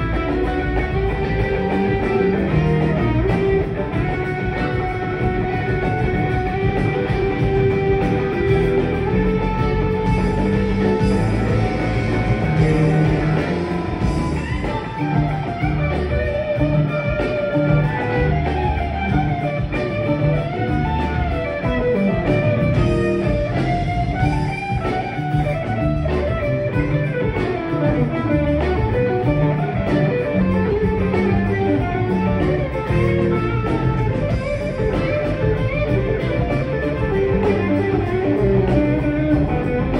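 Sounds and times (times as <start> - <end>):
guitar melody: 0.0 - 39.9
live rock band playing: 0.0 - 39.9.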